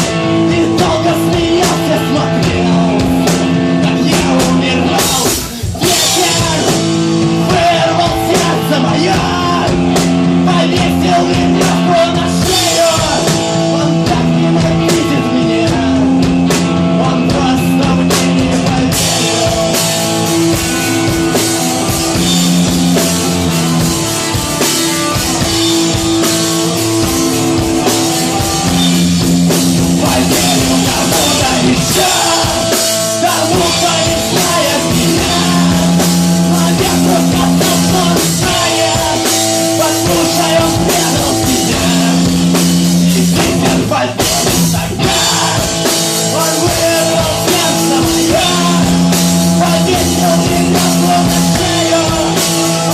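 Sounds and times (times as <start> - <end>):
distorted electric guitars: 0.0 - 52.9
drum kit: 0.0 - 52.9.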